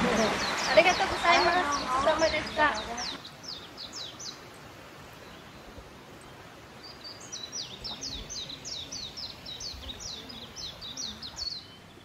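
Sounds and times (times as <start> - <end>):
outdoor background hiss: 0.0 - 12.0
songbird singing: 0.0 - 12.0.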